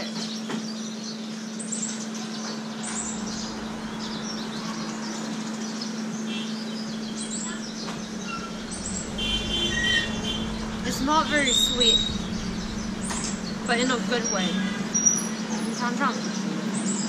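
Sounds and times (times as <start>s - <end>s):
street noise: 0.0s - 17.0s
constant low hum: 0.1s - 16.4s.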